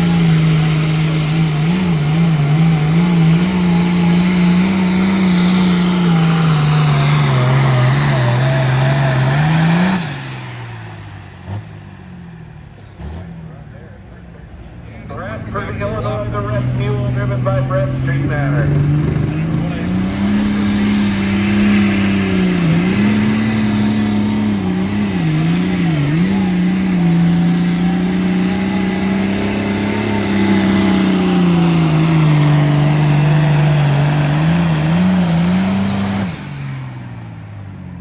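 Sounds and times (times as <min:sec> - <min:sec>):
engine at full throttle: 0:00.0 - 0:38.0.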